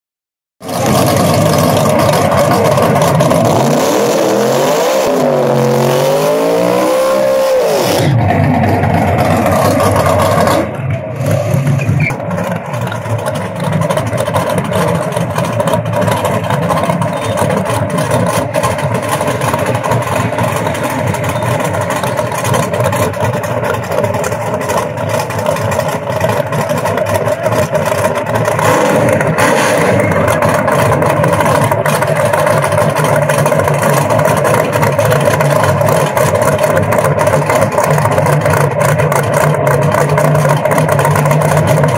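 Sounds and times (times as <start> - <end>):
engines idling: 0.6 - 41.9
engines revving hard: 0.6 - 41.9.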